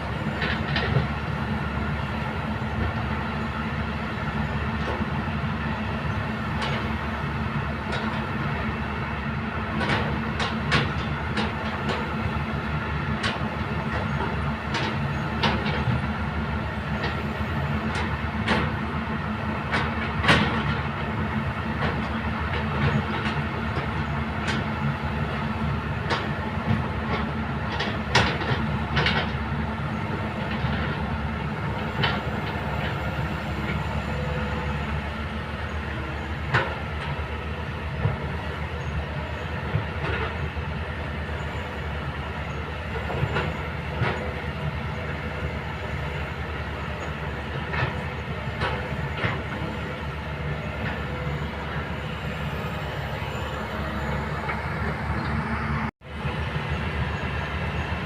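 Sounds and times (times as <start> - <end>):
excavator diesel drone: 0.0 - 58.0.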